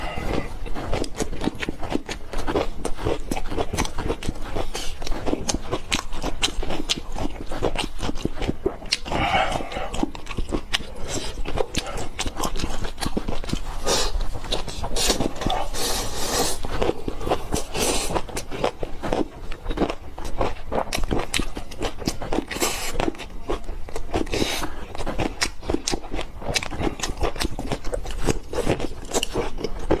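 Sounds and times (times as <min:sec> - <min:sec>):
person chewing noodles: 0:00.0 - 0:30.0.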